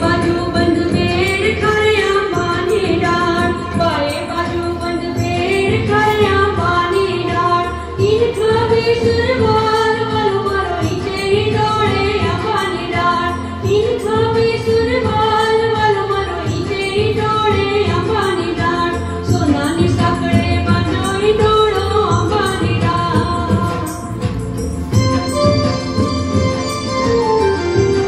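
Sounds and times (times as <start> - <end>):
rhythmic musical accompaniment: 0.0 - 28.0.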